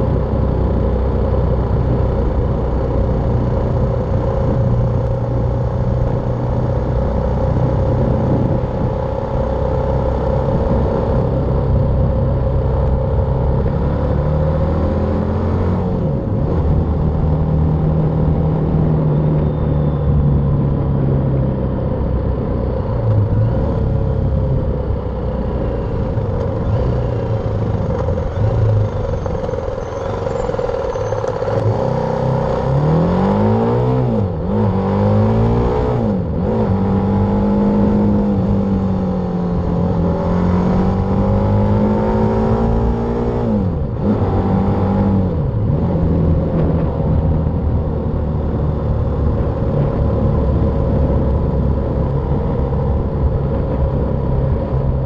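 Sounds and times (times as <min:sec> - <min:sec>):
road noise rushing: 0:00.0 - 0:55.0
motorcycle engine revving: 0:01.8 - 0:55.0.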